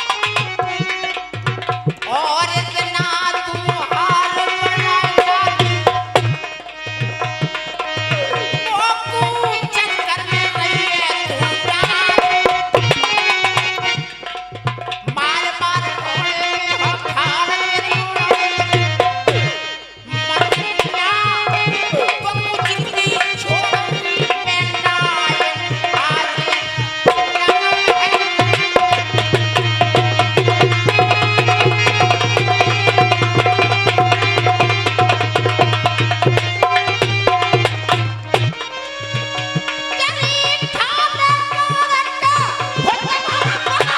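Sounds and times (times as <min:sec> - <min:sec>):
folk melody instrument: 0:00.0 - 0:43.9
hand drum rhythm: 0:00.0 - 0:43.9.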